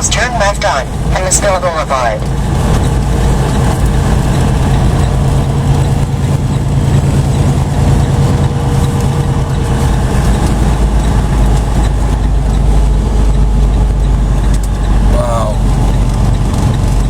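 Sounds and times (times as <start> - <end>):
road noise drone: 0.0 - 17.0
truck diesel engine running: 0.0 - 17.0.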